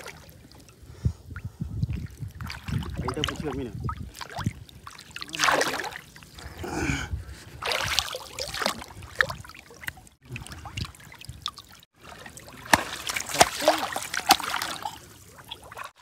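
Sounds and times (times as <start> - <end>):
water sloshing and splashing: 0.0 - 6.6, 7.3 - 16.0.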